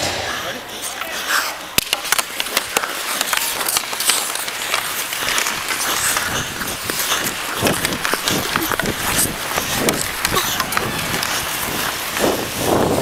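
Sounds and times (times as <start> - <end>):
hockey sticks clacking on ice: 0.3 - 13.0
skate blades scraping ice: 0.3 - 13.0.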